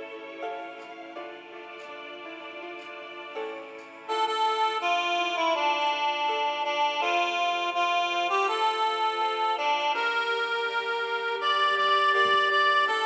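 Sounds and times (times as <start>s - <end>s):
keyboard music with held chords: 0.0s - 13.0s.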